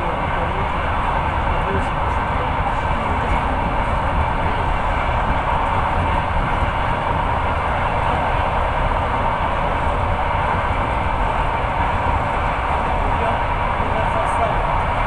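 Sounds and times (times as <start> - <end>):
train running rumble and hiss: 0.0 - 15.0.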